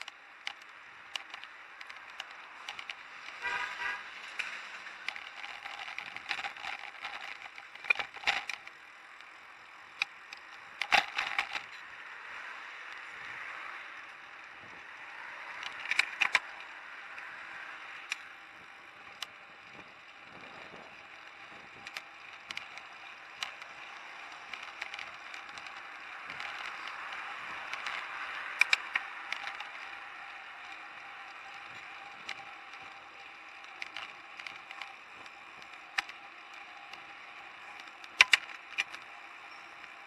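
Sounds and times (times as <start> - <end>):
bike rattling over bumps: 0.0 - 3.5, 4.3 - 11.9, 14.0 - 40.0
bicycle tyre and wind noise: 0.0 - 40.0.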